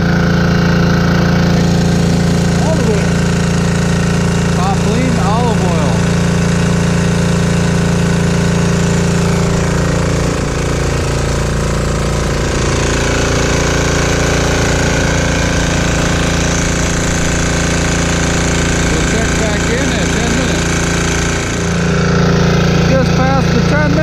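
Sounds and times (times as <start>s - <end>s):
diesel generator knocking: 0.0s - 24.0s.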